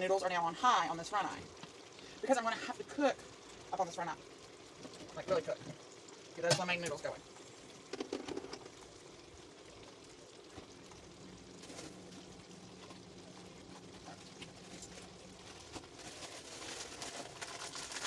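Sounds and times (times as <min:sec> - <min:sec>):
pots bubbling on stovetop: 0:00.0 - 0:18.0.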